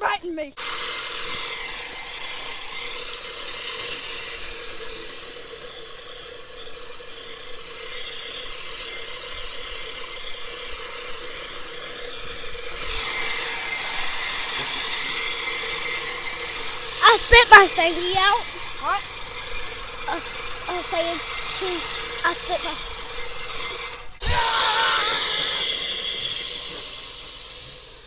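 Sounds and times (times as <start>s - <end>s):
reel mower blades whirring: 0.0s - 28.0s.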